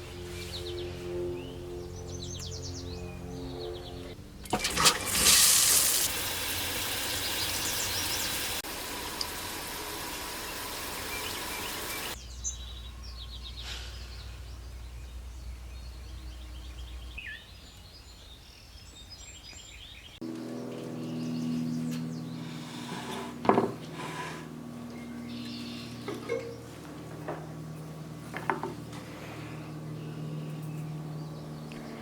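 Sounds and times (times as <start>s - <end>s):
songbirds chirping and trilling: 0.0s - 4.2s, 6.9s - 8.6s, 10.3s - 32.0s.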